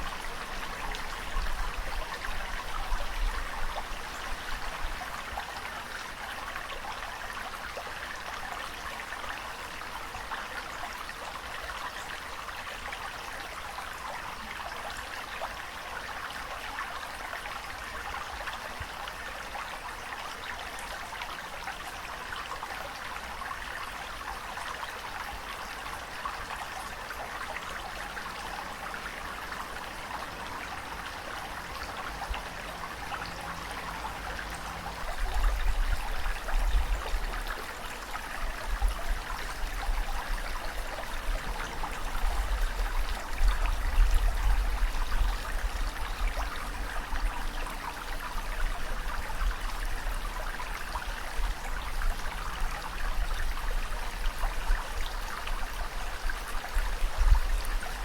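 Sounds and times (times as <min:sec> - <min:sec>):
water rushing and trickling: 0:00.0 - 0:58.0.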